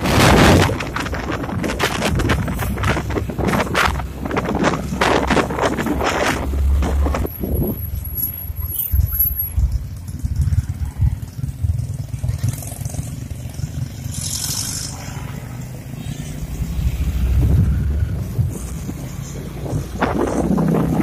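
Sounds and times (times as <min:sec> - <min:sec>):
motorcycle engine and road rumble: 0:00.0 - 0:21.0.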